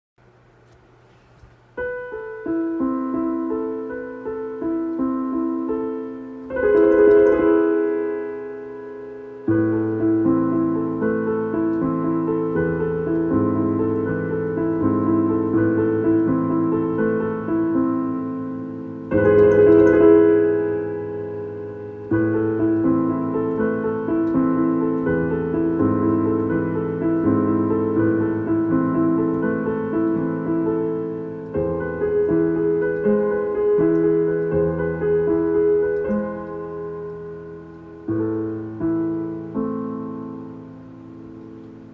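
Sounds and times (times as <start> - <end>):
solo piano broken chords: 1.6 - 41.9
loud accented piano chord: 1.8 - 41.9.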